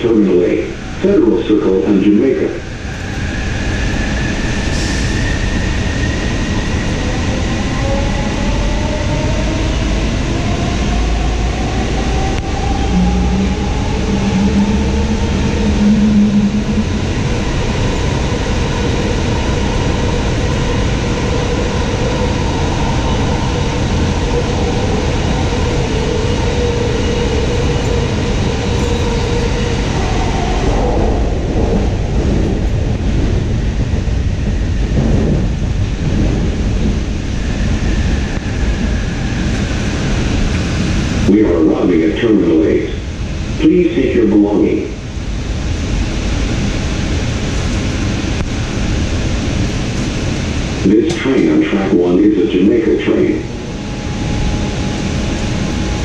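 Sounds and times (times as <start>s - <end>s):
rumble of train wheels: 0.0s - 56.0s.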